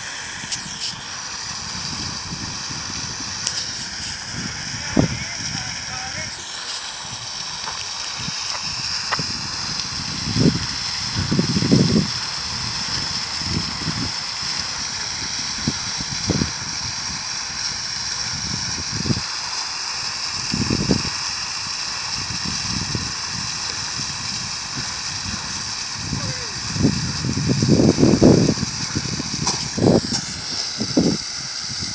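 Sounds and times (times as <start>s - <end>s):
fountain water splashing: 0.0s - 31.9s.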